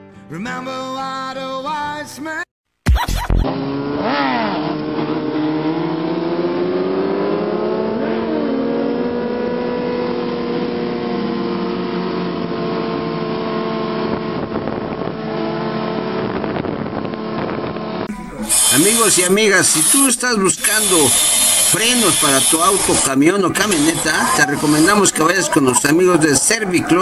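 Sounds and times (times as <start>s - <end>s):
motorcycle engines revving: 3.4s - 27.0s.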